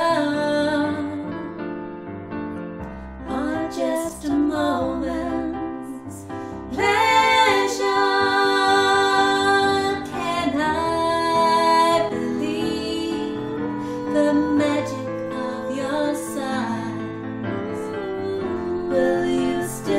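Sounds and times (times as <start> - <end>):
women singing: 0.0 - 1.4, 3.2 - 19.9
piano accompaniment: 0.0 - 19.9.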